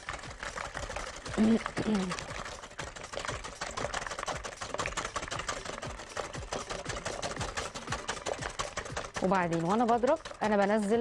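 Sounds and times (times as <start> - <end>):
whisk clicking against glass bowl: 0.0 - 11.0.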